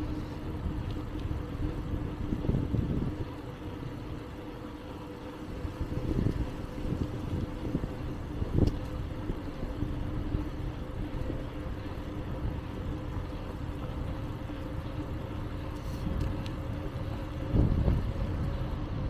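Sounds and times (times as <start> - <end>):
bicycle tyres rolling on trail: 0.0 - 19.0
faint steady hum: 0.0 - 19.0.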